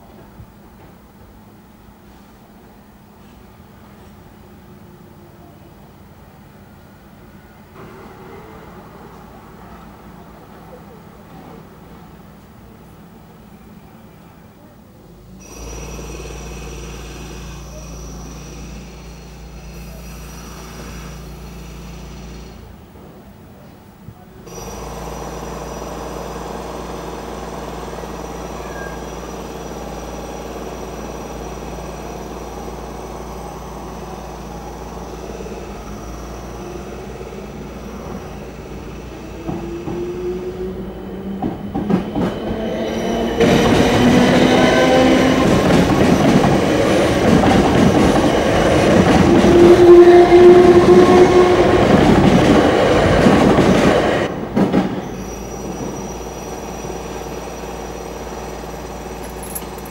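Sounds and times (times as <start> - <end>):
passenger train passing: 0.0 - 59.9.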